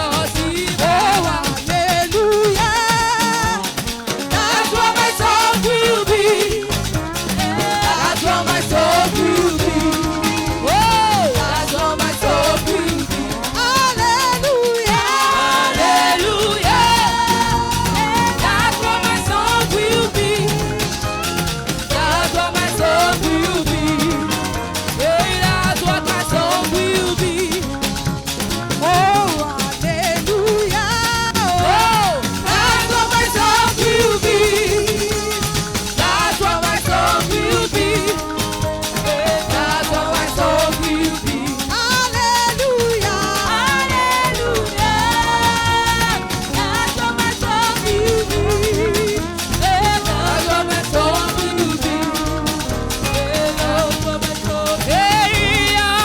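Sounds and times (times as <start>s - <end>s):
band playing beat and bass: 0.0s - 56.0s
choir singing gospel: 0.0s - 56.0s.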